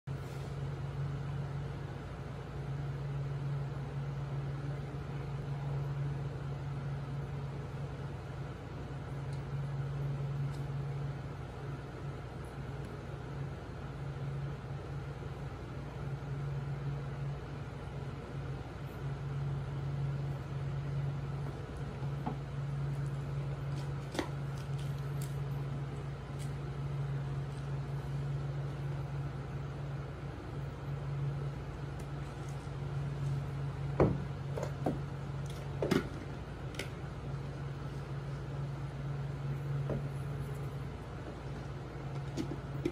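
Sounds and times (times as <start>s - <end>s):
aquarium pump humming: 0.0s - 42.9s.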